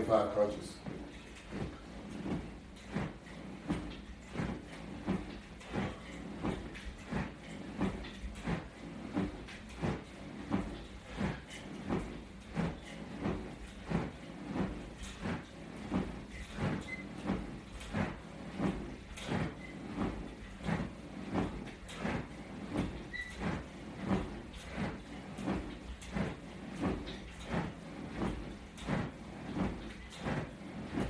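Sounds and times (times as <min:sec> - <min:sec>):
swishing on exercise mat: 0:00.0 - 0:31.0.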